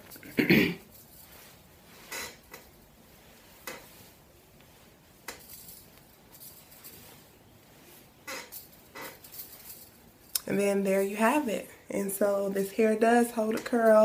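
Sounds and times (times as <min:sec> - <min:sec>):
hands rustling a wig: 0:00.0 - 0:14.0.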